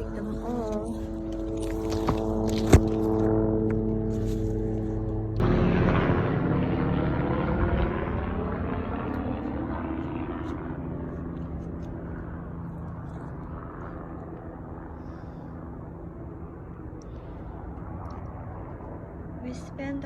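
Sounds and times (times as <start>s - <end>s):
aircraft engine drone: 0.0s - 20.0s.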